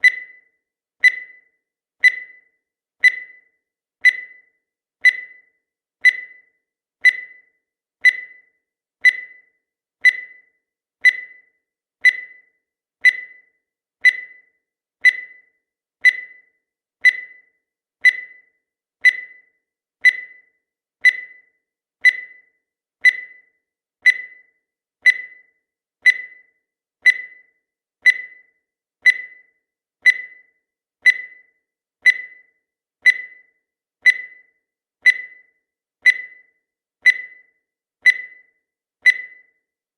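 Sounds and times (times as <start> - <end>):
high-pitched timer beeps: 0.0 - 39.8.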